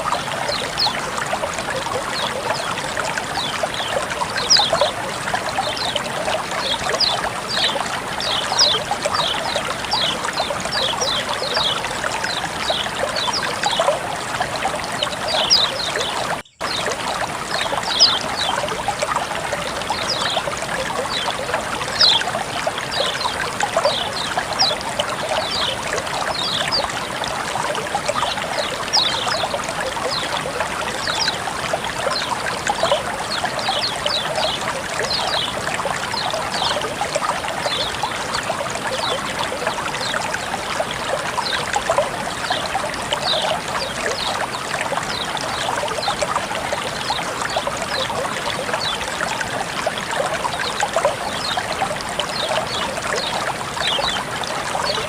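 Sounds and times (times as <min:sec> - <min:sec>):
water flowing and trickling: 0:00.0 - 0:55.0.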